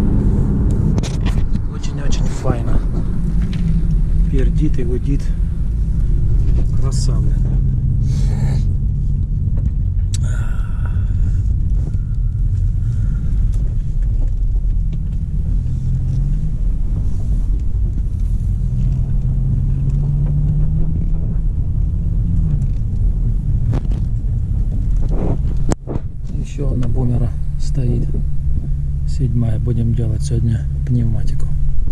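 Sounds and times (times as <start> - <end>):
car engine and exhaust droning: 0.0 - 31.9.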